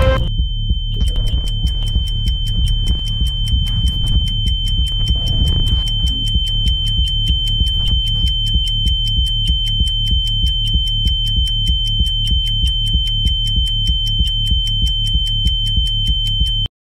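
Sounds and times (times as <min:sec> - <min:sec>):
fast even ticking: 0:00.0 - 0:16.3
high alarm-like tone: 0:00.0 - 0:16.7
lower steady tone: 0:00.0 - 0:16.7
pulsing low bass: 0:00.0 - 0:16.7.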